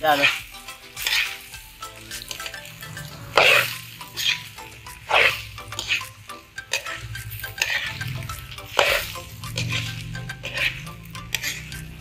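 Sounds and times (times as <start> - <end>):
metal spatula scraping a wok: 0.0 - 1.5, 2.2 - 12.0
food sizzling: 0.0 - 12.0.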